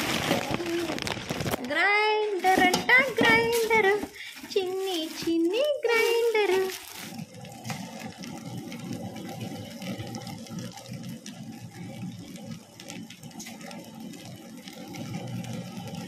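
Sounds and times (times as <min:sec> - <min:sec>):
wet grinder churning batter: 0:00.0 - 0:01.7, 0:02.4 - 0:16.0.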